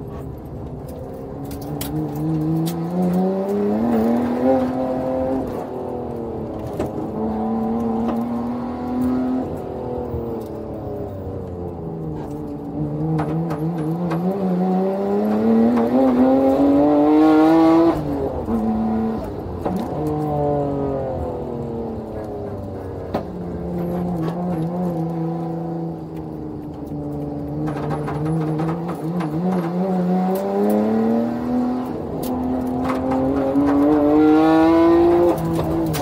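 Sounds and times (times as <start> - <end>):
car engine revving: 0.1 - 36.0.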